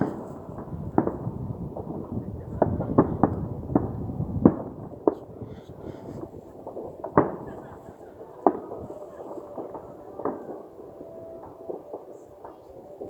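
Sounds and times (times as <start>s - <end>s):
firework bangs: 0.0s - 13.0s
rumble of fireworks: 0.0s - 13.0s.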